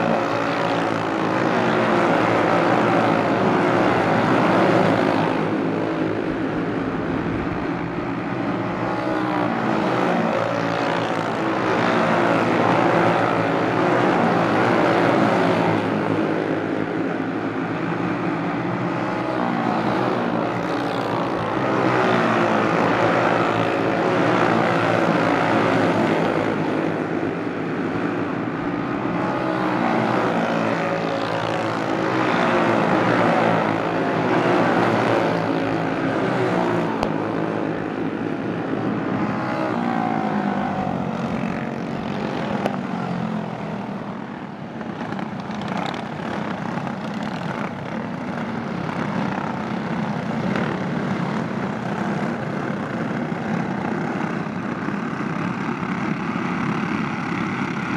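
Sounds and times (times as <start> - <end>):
racing kart engines revving: 0.0 - 57.9.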